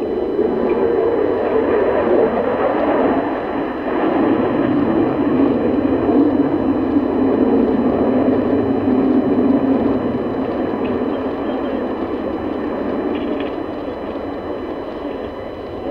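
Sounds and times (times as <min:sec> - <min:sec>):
fighter jet engine roar: 0:00.0 - 0:15.9.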